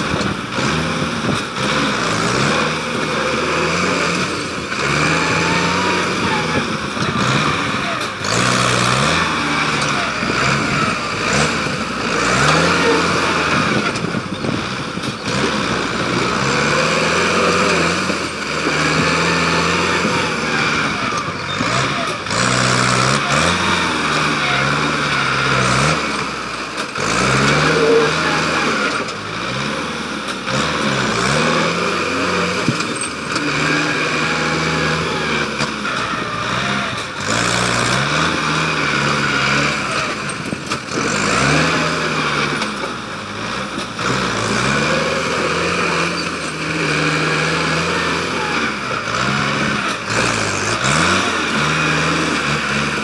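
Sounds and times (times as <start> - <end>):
tractor diesel engine revving: 0.0 - 53.0.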